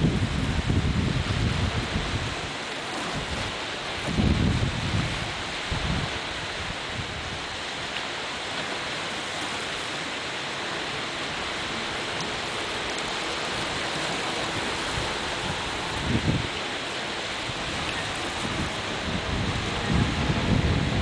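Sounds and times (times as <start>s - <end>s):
wind on microphone: 0.0s - 8.4s, 10.9s - 21.0s
small waves breaking on beach: 0.0s - 21.0s.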